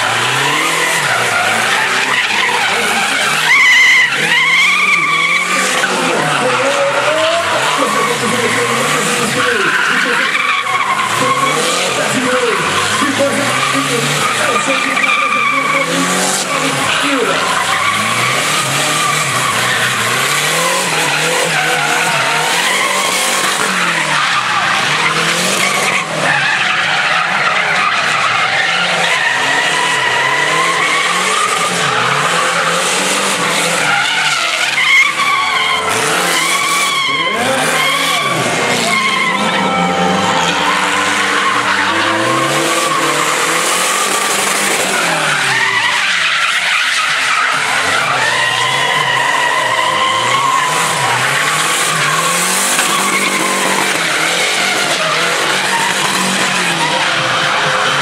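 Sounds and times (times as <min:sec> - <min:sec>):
car engine revving: 0:00.0 - 0:58.0
tyres squealing: 0:00.0 - 0:58.0.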